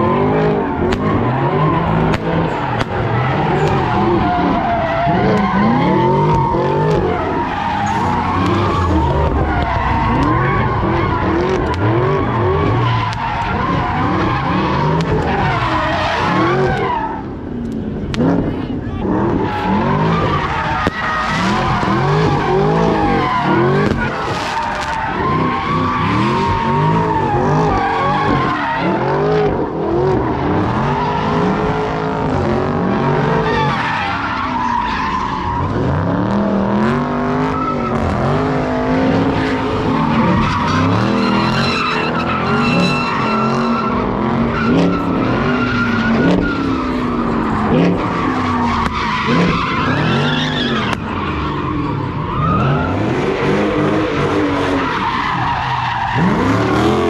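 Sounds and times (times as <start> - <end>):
tyre squeal on pavement: 0.0 - 17.6, 18.2 - 57.0
car engines revving hard: 0.0 - 57.0.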